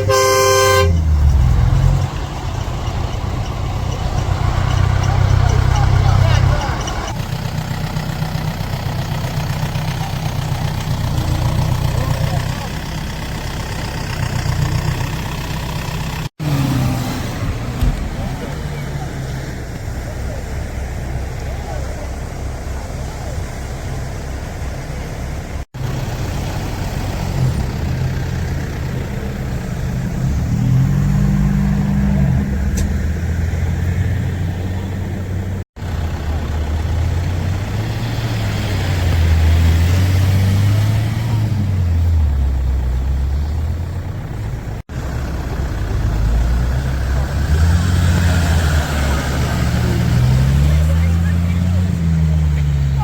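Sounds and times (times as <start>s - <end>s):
off-road vehicle engines revving: 0.0s - 53.0s.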